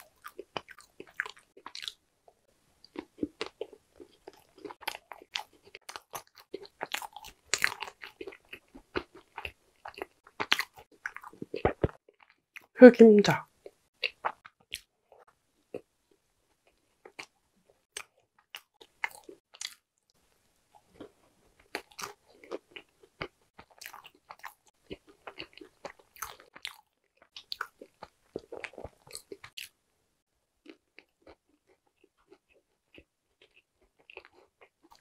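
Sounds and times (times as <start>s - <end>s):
crisp chewing crunches: 0.0s - 2.0s, 2.8s - 12.4s, 13.6s - 19.8s, 20.8s - 29.7s, 30.6s - 35.0s.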